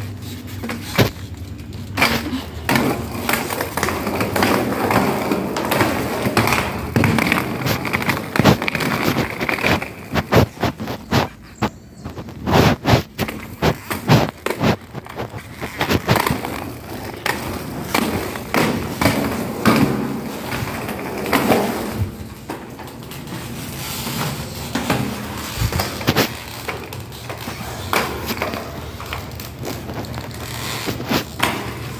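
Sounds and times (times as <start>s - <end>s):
roller skate wheels rolling: 0.0s - 31.9s.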